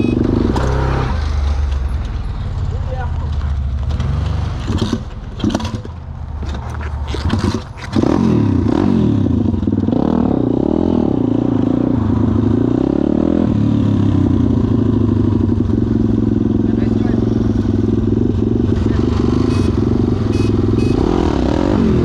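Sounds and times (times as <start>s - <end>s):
pit bike engine idling and revving: 0.0s - 22.0s.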